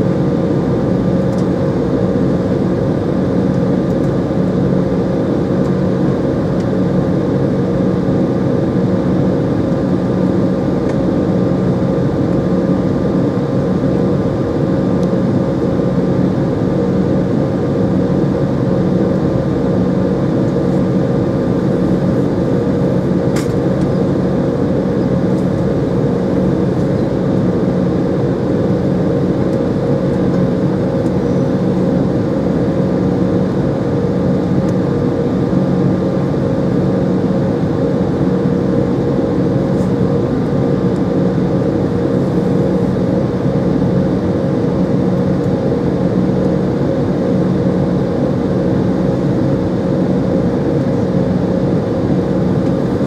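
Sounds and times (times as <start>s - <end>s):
jet engine hum in cabin: 0.0s - 53.0s.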